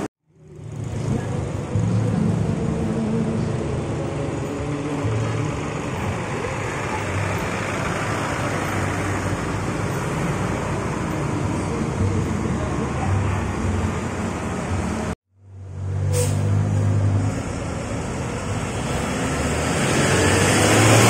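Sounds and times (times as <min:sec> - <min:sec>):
bus diesel engine running: 0:00.0 - 0:21.0
street traffic: 0:00.0 - 0:21.0.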